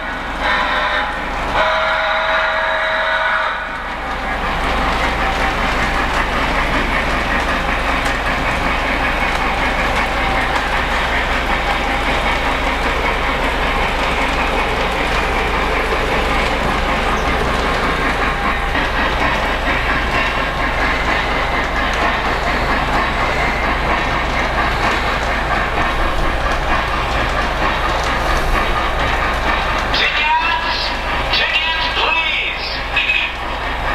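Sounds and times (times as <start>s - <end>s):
model train clattering on rails: 0.0s - 33.9s.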